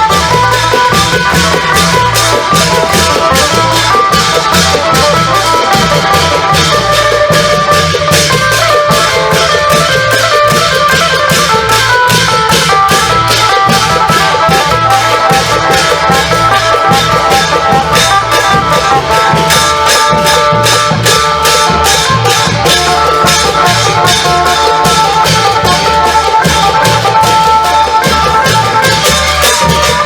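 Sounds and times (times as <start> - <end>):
low drum beats: 0.0 - 30.0
quick drum beat: 0.0 - 30.0.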